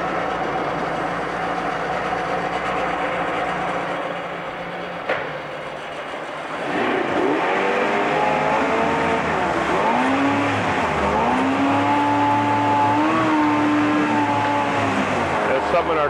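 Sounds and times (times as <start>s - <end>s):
two-stroke outboard motor revving: 0.0s - 16.0s.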